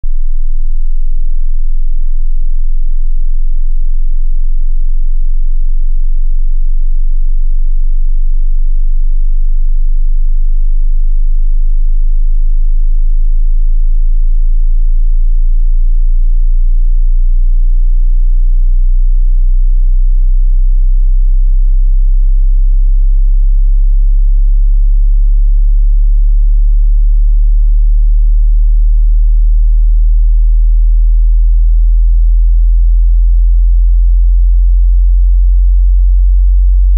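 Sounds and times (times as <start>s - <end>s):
deep bass sine tone rising: 0.0s - 36.9s.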